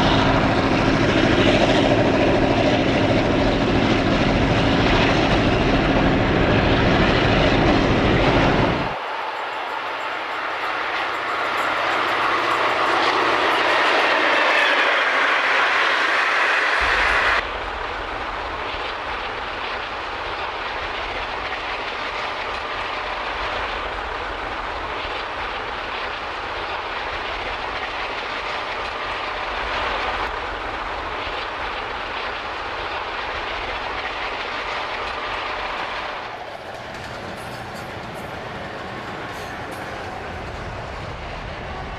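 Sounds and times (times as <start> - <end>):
diesel locomotive engine: 0.0 - 41.9
train rumble on rails: 0.0 - 41.9.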